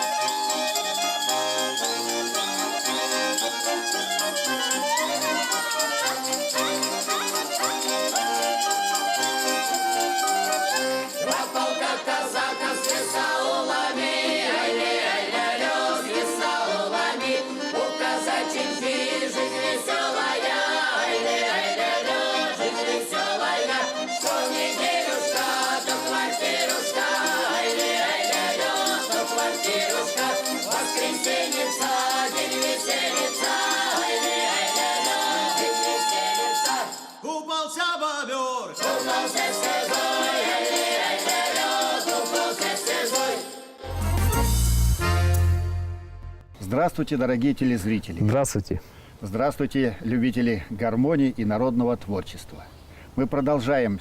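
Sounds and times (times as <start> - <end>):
lively folk ensemble music: 0.0 - 37.1, 38.8 - 46.5.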